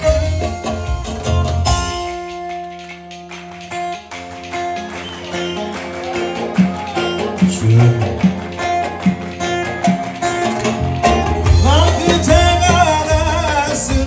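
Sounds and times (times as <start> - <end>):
amplified lute plucked melody: 0.0 - 14.0
drum beats: 0.0 - 14.0.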